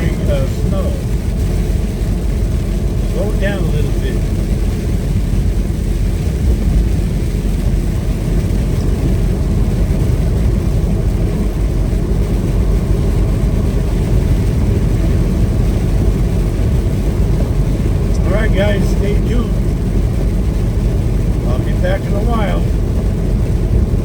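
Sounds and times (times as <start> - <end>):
truck driving at speed: 0.0 - 24.0.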